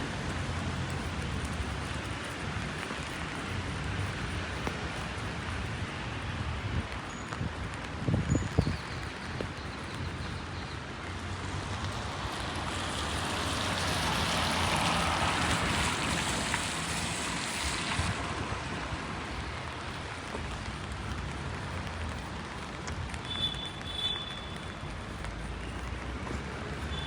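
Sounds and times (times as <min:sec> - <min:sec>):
rain on wet street: 0:00.0 - 0:27.0
tyres hissing on wet road: 0:00.0 - 0:27.0.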